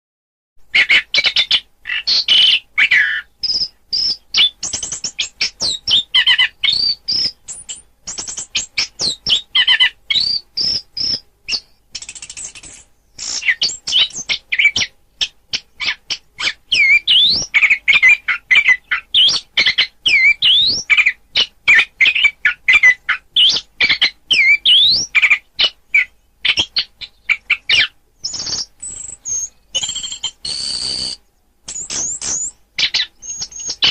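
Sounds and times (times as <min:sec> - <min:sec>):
songbird chips trills and whistles: 0:00.7 - 0:33.9.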